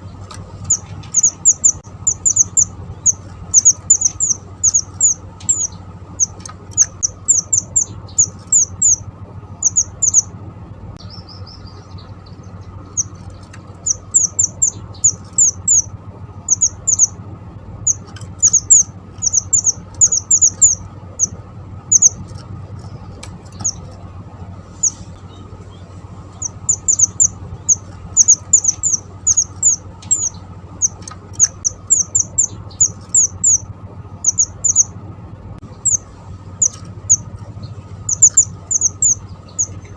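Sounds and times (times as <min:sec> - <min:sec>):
songbird chirping: 0:00.0 - 0:39.9
steady low hum: 0:00.0 - 0:39.9.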